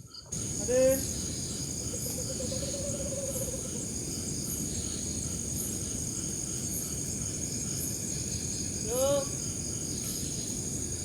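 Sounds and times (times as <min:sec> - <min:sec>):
crickets trilling: 0:00.1 - 0:11.0.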